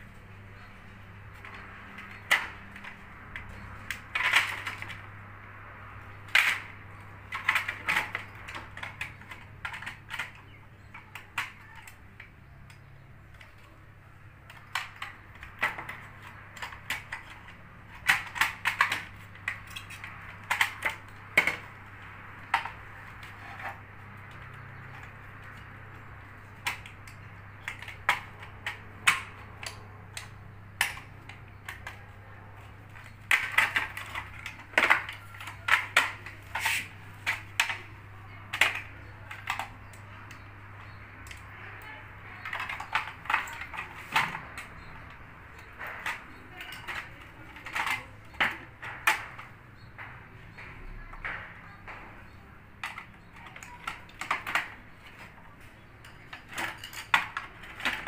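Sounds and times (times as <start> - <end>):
hard plastic clicking and clattering: 1.2 - 5.2, 5.9 - 58.0.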